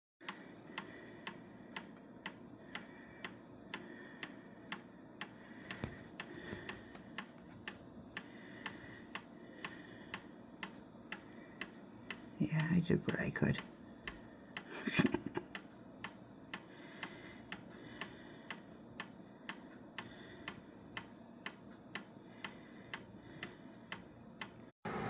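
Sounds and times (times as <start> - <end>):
mechanical ticking: 0.2 - 24.7
low continuous hum: 0.2 - 25.0.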